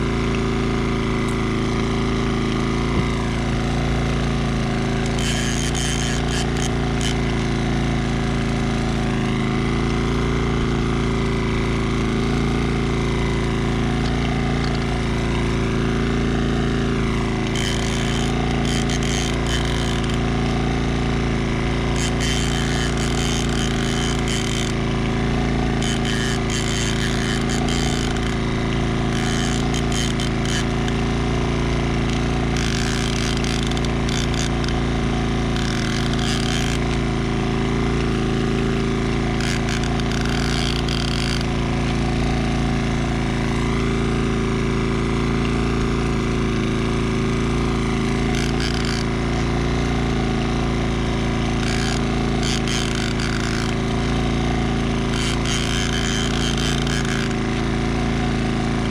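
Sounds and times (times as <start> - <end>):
outboard motor running: 0.0 - 58.9.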